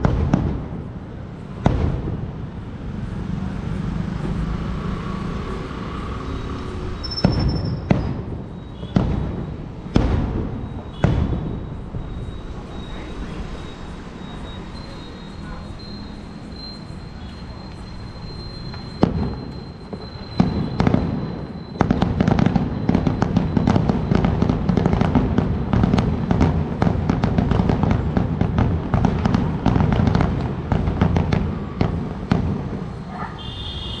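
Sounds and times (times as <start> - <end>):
fireworks bangs: 0.0 - 3.2, 5.3 - 34.0
fireworks crackling: 0.0 - 3.2, 6.0 - 34.0.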